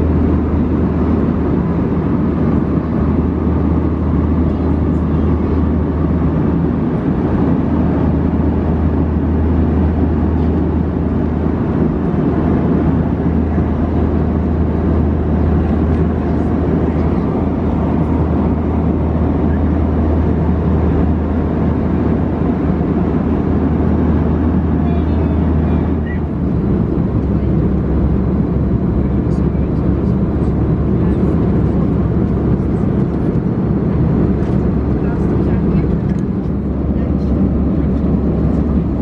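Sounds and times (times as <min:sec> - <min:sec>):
airflow and engine noise: 0:00.0 - 0:39.0
low hum: 0:00.0 - 0:39.0.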